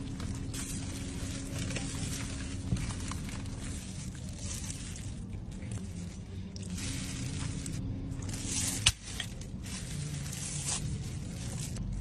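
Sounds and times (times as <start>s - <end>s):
plastic crinkling and rustling: 0.0s - 12.0s
steady low hum: 0.0s - 12.0s.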